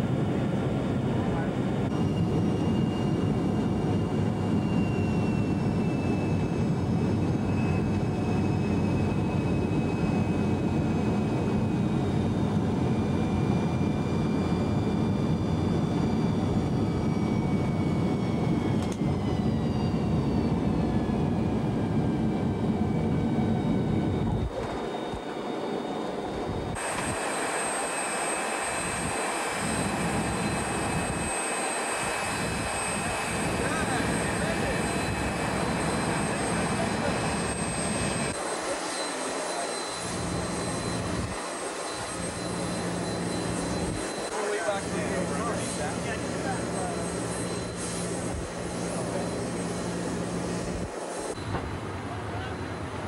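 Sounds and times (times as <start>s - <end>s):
airliner engines rumbling: 0.0s - 53.0s
high steady engine whine: 0.0s - 53.0s.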